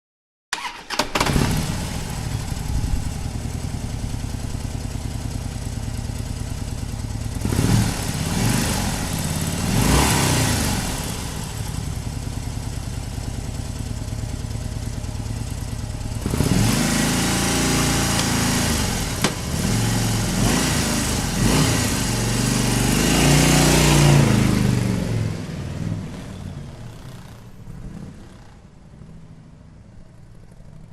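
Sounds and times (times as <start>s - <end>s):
motorcycle engine idling and revving: 0.5s - 30.9s.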